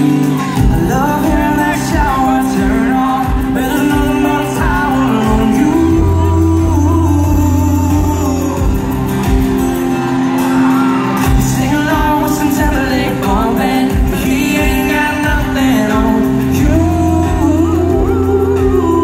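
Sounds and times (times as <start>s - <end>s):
man singing lead vocal: 0.0s - 9.9s, 11.0s - 19.0s
live pop-country band: 0.0s - 19.0s.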